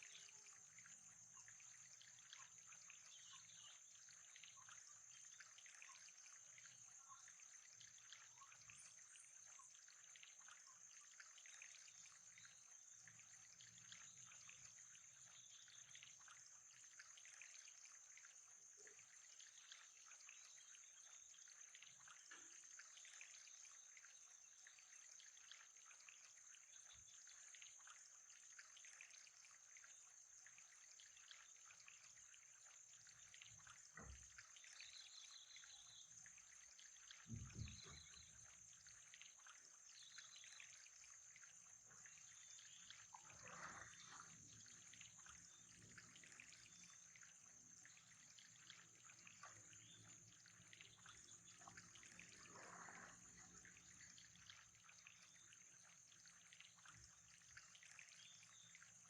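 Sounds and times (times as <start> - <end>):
faint trickling water: 0.0 - 59.0.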